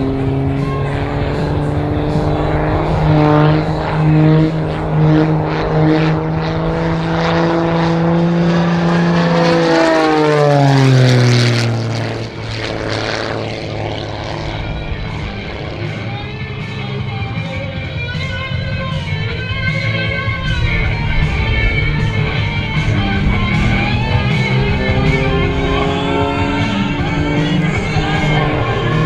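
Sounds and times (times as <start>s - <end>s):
propeller plane engine buzzing: 0.0s - 29.0s.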